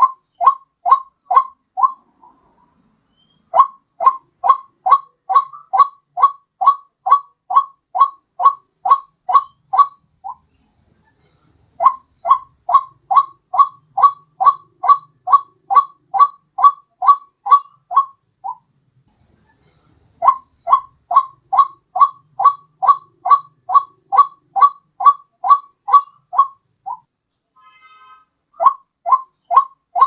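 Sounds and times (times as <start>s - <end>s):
waterhen call: 0.0s - 2.5s, 3.2s - 10.4s, 11.8s - 18.6s, 20.2s - 27.0s, 27.6s - 30.0s.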